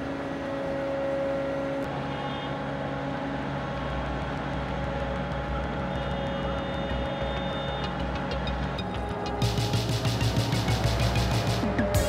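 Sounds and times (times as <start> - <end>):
machine whine: 0.0 - 12.0.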